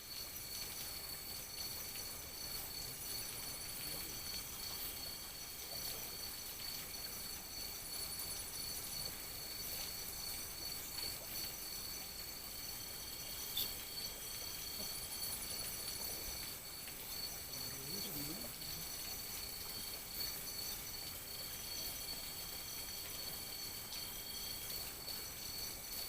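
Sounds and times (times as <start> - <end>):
crickets and insects trilling: 0.0 - 26.0
pulsing insect trill: 0.0 - 26.0.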